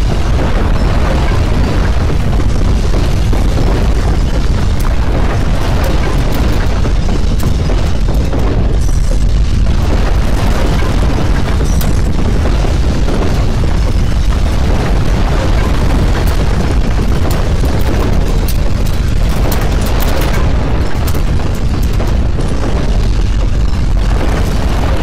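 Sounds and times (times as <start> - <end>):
earthquake ground rumble: 0.0 - 25.0.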